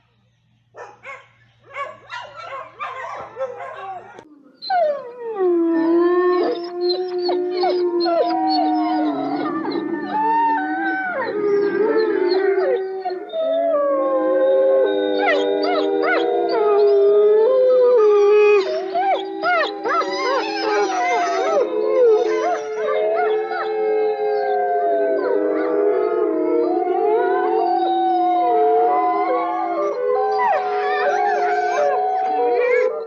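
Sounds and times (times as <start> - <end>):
canines howling in chorus: 1.8 - 33.0.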